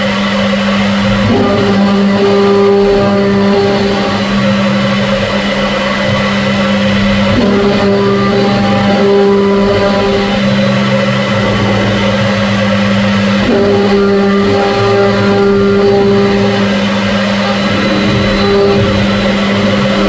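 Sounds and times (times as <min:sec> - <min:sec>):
higher motor tones: 0:00.0 - 0:20.0
machine motor hum: 0:00.0 - 0:20.0.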